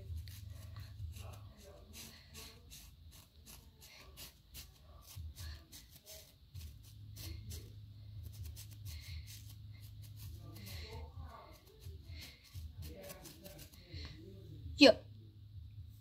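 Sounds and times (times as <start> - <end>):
toothbrush scrubbing cloth: 0.0 - 14.0
low steady hum: 0.0 - 16.0.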